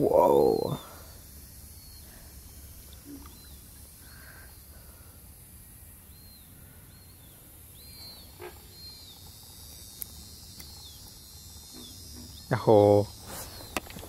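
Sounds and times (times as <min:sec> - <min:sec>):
bird chirping: 0:00.0 - 0:14.0
faint background hiss and hum: 0:00.0 - 0:14.0.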